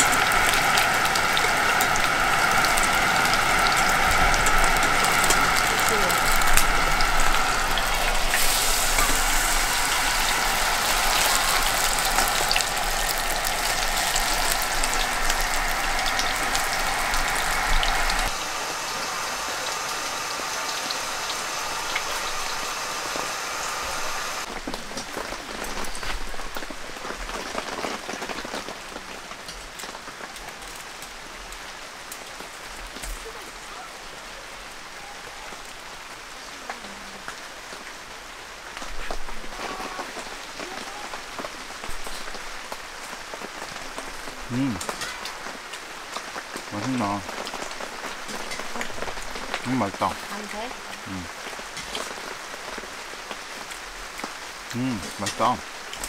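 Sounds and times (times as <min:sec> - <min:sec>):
food sizzling and crackling: 0:00.0 - 0:33.4, 0:34.7 - 0:56.0.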